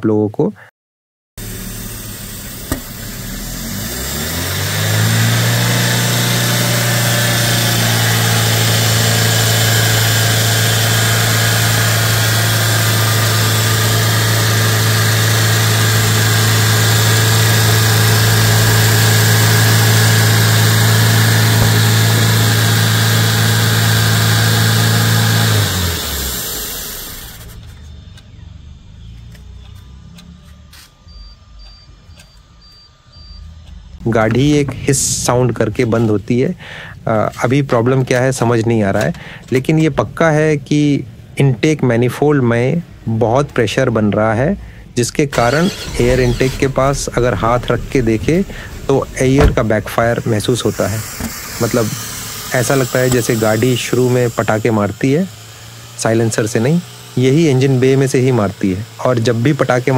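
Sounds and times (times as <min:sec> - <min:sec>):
car engine idling: 0:01.4 - 0:59.9
engine hissing: 0:01.4 - 0:59.9.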